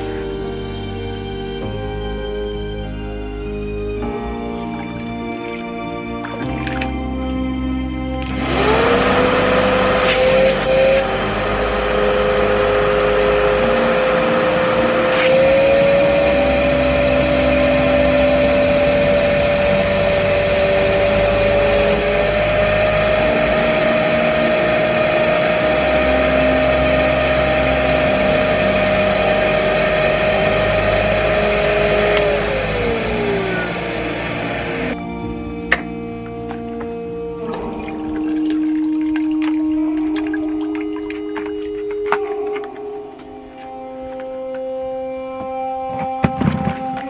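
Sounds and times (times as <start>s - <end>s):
vacuum motor whining: 8.2s - 47.0s.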